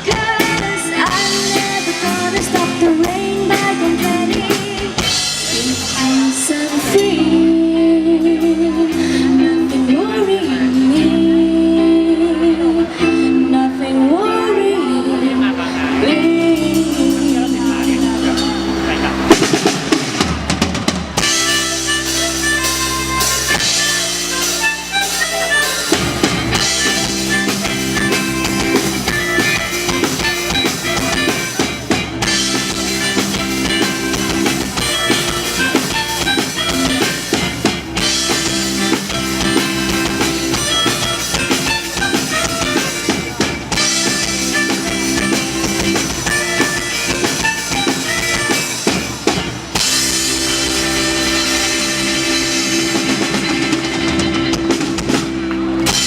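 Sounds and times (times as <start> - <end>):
drum kit beats: 0.0 - 12.2, 12.8 - 56.0
live band playing: 0.0 - 56.0.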